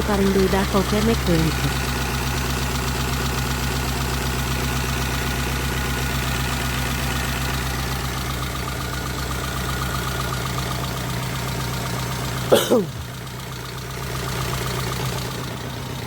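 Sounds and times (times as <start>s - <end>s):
car engine idling: 0.0s - 16.0s
regular engine ticking: 0.0s - 16.0s.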